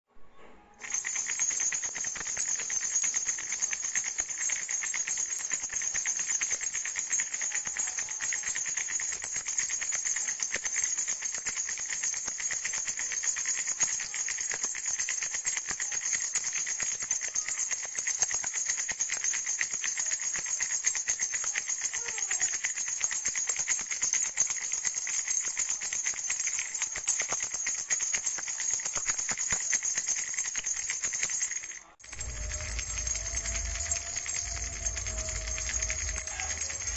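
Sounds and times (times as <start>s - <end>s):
baby rattle shaken rapidly: 0.8s - 36.9s.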